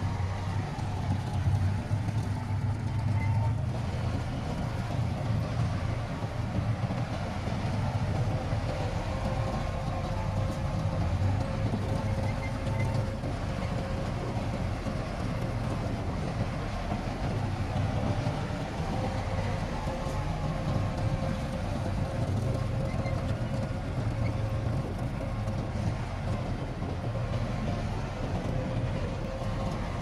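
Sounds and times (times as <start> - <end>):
bulldozer diesel engine rumbling: 0.0 - 30.0.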